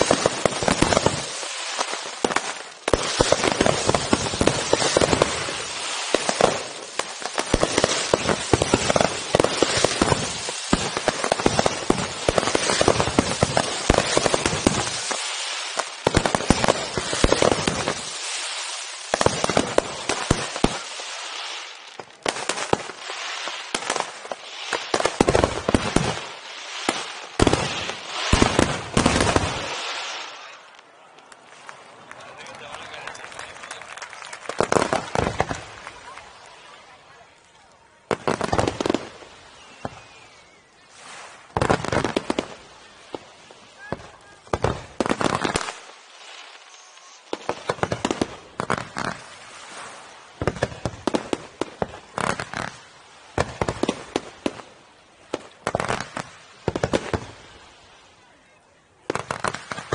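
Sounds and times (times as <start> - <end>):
fireworks bursting: 0.0 - 58.1, 59.0 - 59.9
fireworks crackle: 0.0 - 59.9.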